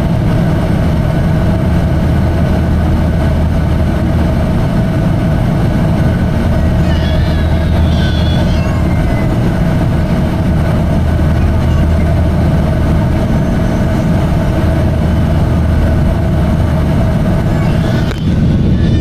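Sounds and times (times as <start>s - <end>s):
constant hum: 0.0s - 19.0s
jet engines and airflow drone: 0.0s - 19.0s.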